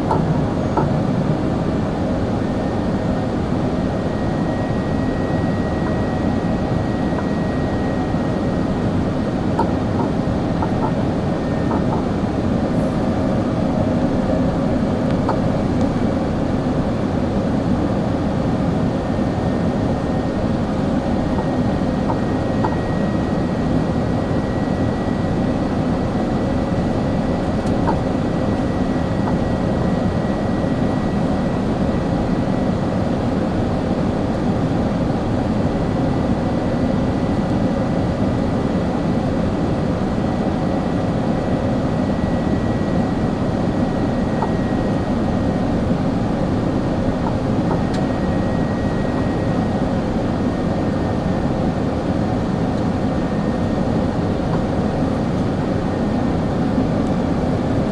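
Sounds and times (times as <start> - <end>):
airflow and engines rushing: 0.0 - 57.9
thin steady whine: 0.0 - 57.9.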